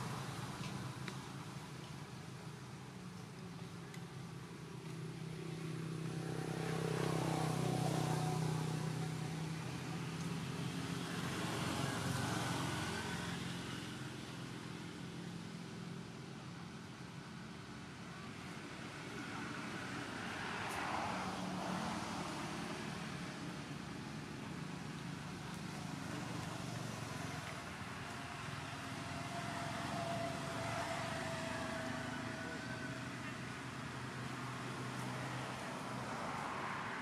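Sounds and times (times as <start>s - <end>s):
vehicle engines passing: 0.0s - 37.0s.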